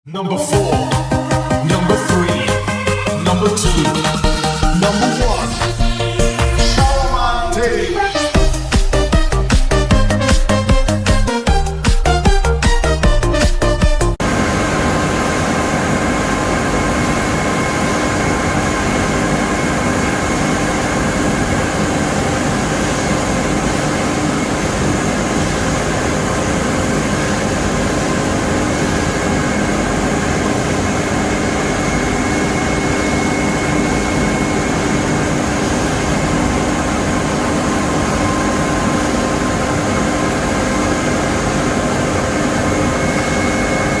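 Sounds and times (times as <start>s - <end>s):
pellet mill machine drone: 0.2s - 11.2s, 14.2s - 44.0s.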